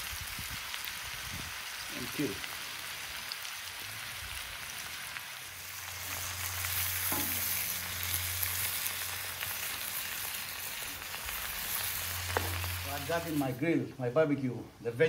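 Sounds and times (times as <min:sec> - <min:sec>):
vegetables sizzling in a skillet: 0:00.0 - 0:13.6.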